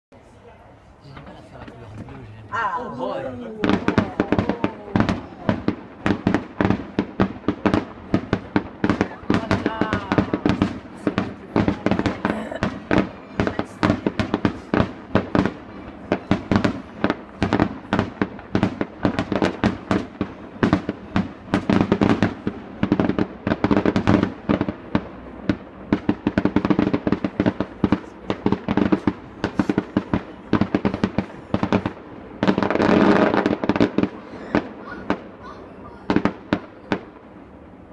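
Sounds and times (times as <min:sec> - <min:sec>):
fireworks bursting and crackling: 0:01.0 - 0:37.9.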